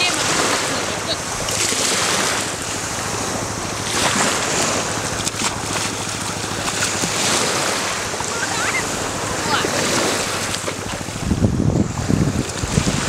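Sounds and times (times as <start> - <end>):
swimmer diving splash: 0.0 - 11.2
shallow water lapping: 0.0 - 13.0
wind buffeting microphone: 0.0 - 13.0.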